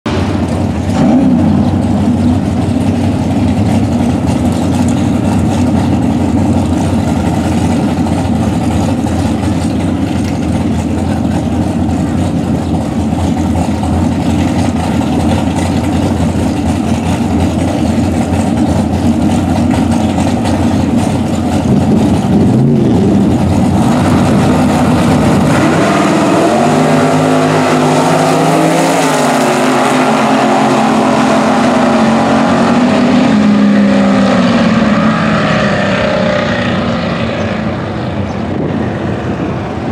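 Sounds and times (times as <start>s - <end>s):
drag racing car engines rumbling: 0.0s - 39.9s.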